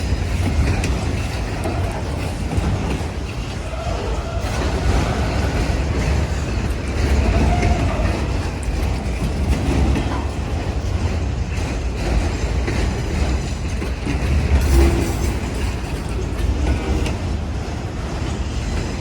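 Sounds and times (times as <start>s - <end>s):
freight train cars rolling past: 0.0s - 19.0s.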